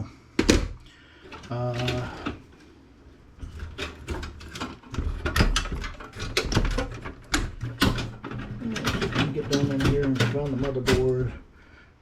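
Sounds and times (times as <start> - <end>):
computer parts clicking and clattering: 0.4 - 2.5, 3.4 - 11.4.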